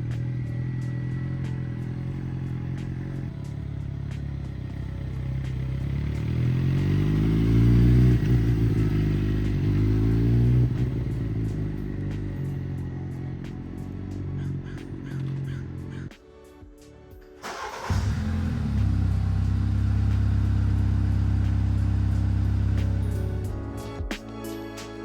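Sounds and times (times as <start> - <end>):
vehicle engine running and revving: 0.0 - 16.2, 17.4 - 25.0.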